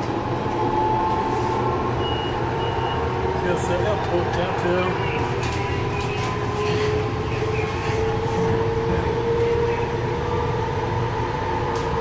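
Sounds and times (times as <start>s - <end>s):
constant whine: 0.0s - 12.0s
light rail train rumble: 0.0s - 12.0s.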